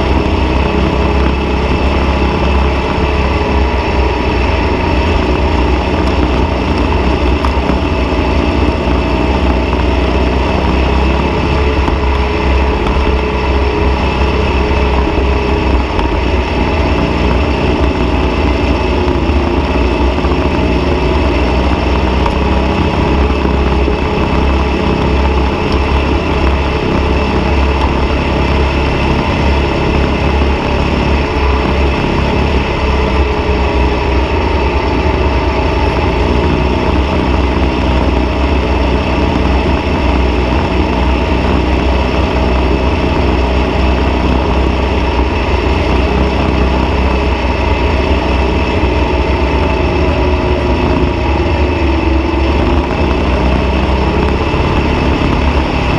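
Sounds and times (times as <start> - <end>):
dune buggy engine running: 0.0 - 55.9.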